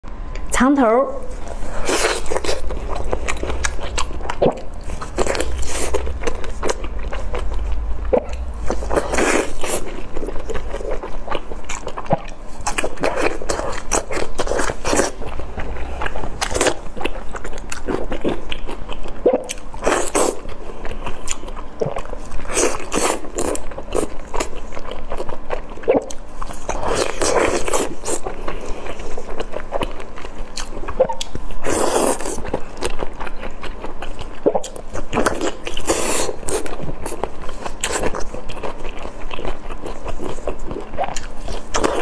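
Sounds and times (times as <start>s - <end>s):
person chewing food: 1.3s - 42.0s.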